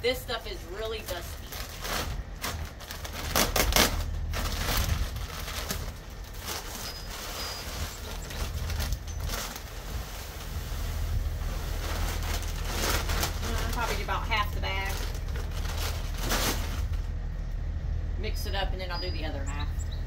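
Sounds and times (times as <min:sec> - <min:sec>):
plastic feed bag rustling: 0:00.8 - 0:17.2
sharp crackles: 0:01.0 - 0:17.2.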